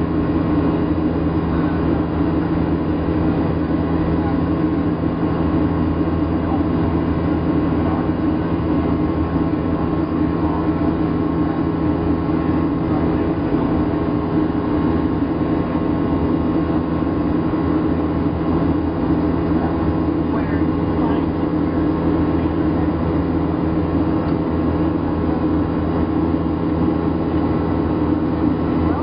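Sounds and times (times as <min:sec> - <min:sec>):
jet engines humming: 0:00.0 - 0:29.0.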